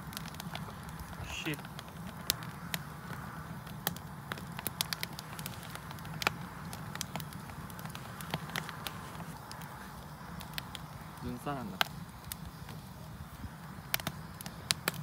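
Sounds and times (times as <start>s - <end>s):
fire crackling and popping: 0.0s - 15.0s
low rumble of burning: 0.0s - 15.0s.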